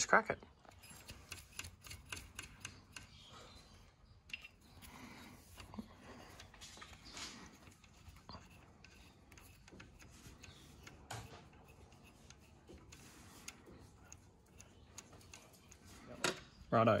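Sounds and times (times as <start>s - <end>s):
bolts clicking and metal scraping: 0.0s - 17.0s.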